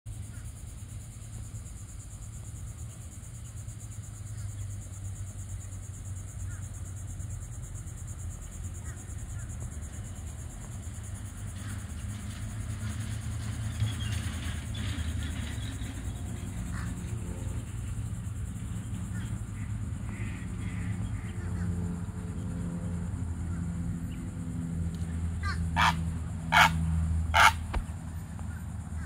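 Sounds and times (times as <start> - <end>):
high insect chorus: 0.1 - 29.0.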